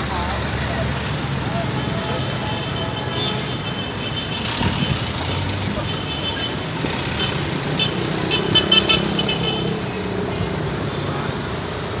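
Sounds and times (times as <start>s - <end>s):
vehicle engines passing slowly: 0.0s - 12.0s.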